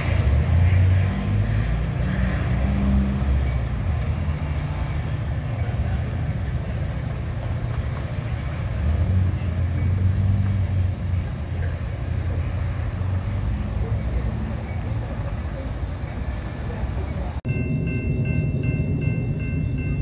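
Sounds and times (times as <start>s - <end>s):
diesel train engine droning: 0.0s - 20.0s.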